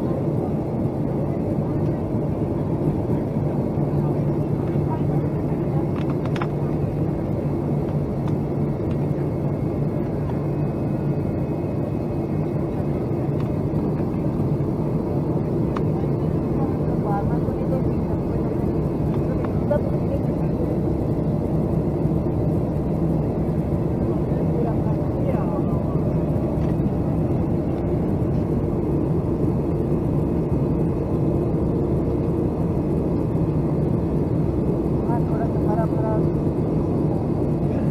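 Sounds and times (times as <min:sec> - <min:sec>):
airliner cabin engine rumble: 0:00.0 - 0:37.9.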